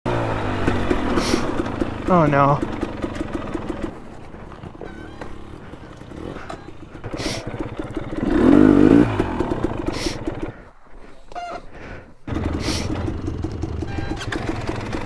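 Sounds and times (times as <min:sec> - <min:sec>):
dirt bike engine revving: 0:00.1 - 0:10.7, 0:12.3 - 0:15.0.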